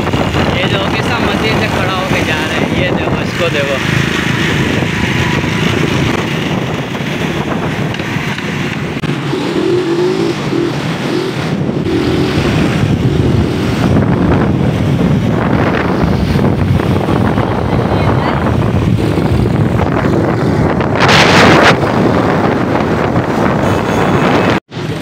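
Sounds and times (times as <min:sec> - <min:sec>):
small motorcycle engines running: 0:00.0 - 0:20.2
road noise: 0:00.0 - 0:25.0
wind buffeting microphone: 0:00.0 - 0:25.0.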